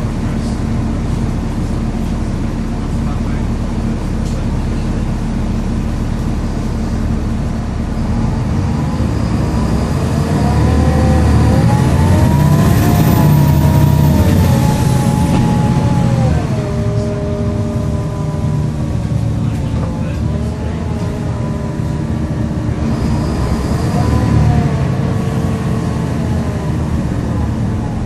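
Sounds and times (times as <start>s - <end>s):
bus diesel engine pulling away: 0.0s - 28.0s.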